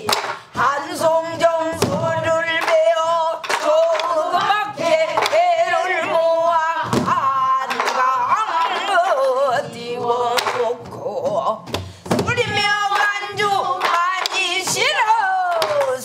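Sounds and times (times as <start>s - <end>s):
woman singing with vibrato: 0.0s - 16.0s.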